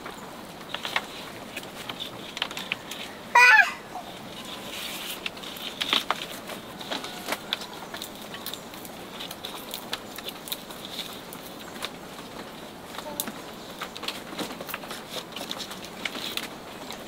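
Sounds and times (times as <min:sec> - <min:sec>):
wire clicking and scraping on bamboo: 0:00.0 - 0:03.2, 0:04.3 - 0:17.0.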